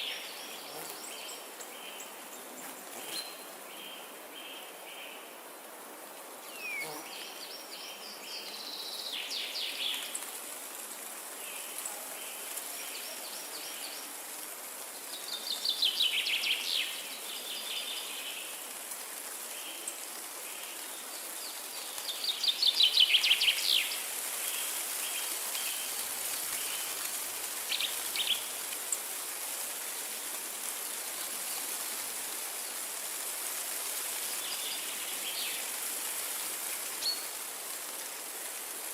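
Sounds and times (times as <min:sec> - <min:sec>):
wind through trees: 0:00.0 - 0:38.9.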